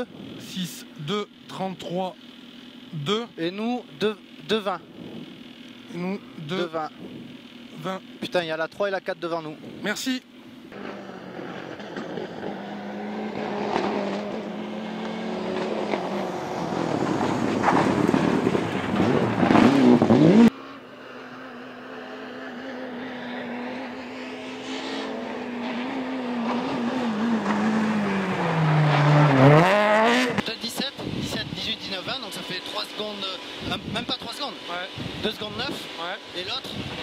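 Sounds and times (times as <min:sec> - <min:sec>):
rally car engines revving: 0:00.0 - 0:37.0.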